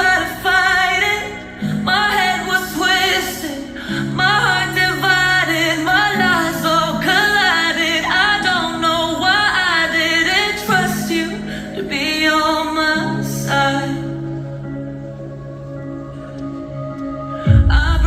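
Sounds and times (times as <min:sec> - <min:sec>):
held backing chords: 0:00.0 - 0:18.0
person singing: 0:00.0 - 0:18.0.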